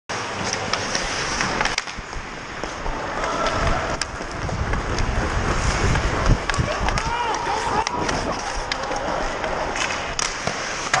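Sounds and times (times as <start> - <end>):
skate blades scraping ice: 0.1 - 11.0
sticks striking puck: 0.3 - 5.1, 6.2 - 11.0.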